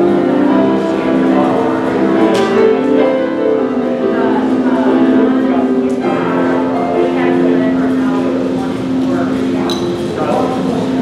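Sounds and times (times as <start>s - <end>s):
live church music: 0.0s - 11.0s.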